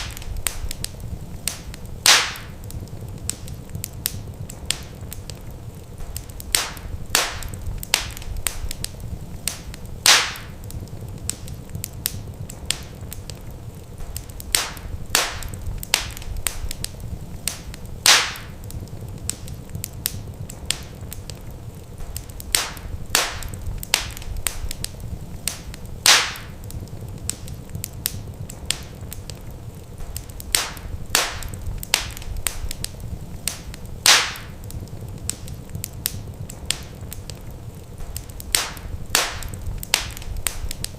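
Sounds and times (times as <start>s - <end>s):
loud fire pops: 0.0s - 40.9s
wood fire crackling: 0.0s - 40.9s.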